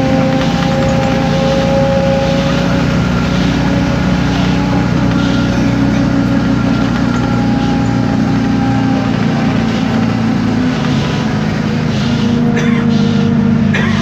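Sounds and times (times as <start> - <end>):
bus diesel engine running: 0.0 - 14.0
faint drivetrain whine: 0.0 - 14.0.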